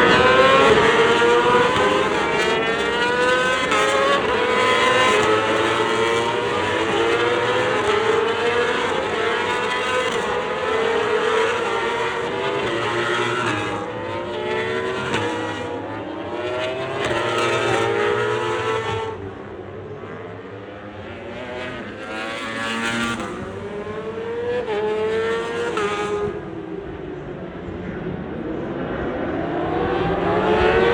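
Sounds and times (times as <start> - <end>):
racing motorcycles at full throttle: 0.0 - 30.9.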